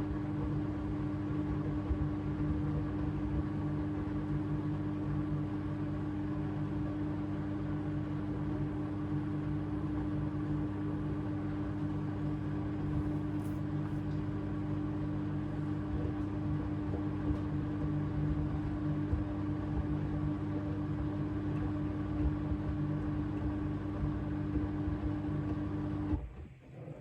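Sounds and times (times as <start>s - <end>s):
washing machine humming: 0.0s - 27.0s.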